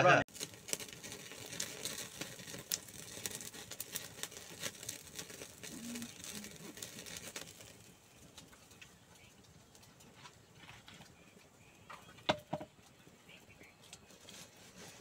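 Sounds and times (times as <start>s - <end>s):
wood fire crackling and popping: 0.2s - 15.0s.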